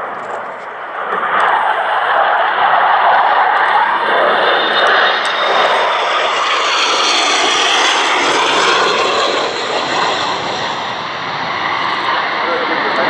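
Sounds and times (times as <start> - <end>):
jet aircraft flying by: 0.0 - 13.0.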